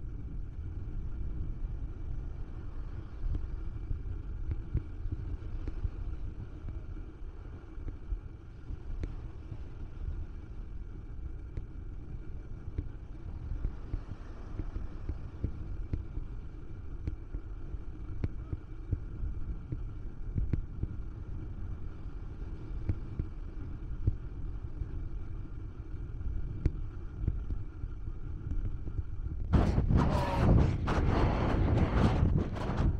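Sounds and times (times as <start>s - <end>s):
faint steady whine: 0.0s - 32.9s
wind rumbling on microphone: 0.0s - 32.9s.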